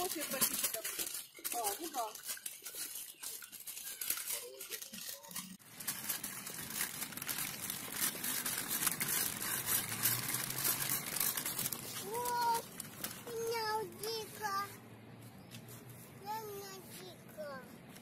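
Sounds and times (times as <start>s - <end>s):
plastic wheels rattling on bricks: 0.0s - 14.7s.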